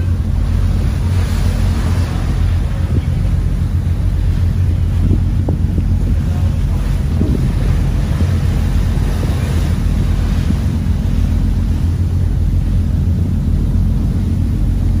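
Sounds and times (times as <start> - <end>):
boat engine running: 0.0 - 15.0
water rushing past hull: 0.0 - 15.0
wind buffeting microphone: 0.0 - 15.0.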